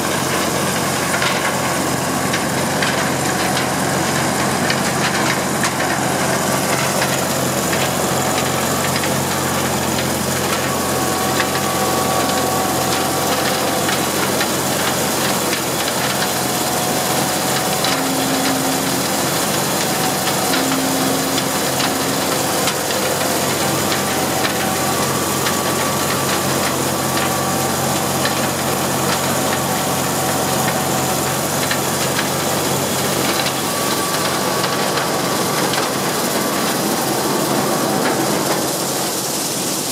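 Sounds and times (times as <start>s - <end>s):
corn cobs rattling: 0.0s - 39.9s
corn sheller mechanical din: 0.0s - 39.9s
tractor engine under load: 0.0s - 39.9s.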